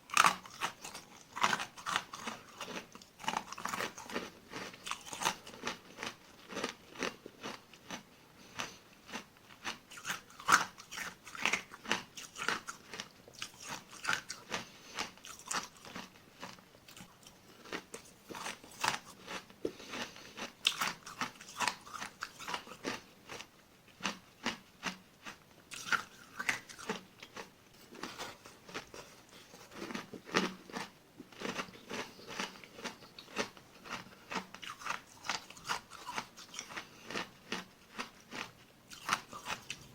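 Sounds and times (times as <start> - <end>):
chewing ice crunches: 0.1 - 39.9.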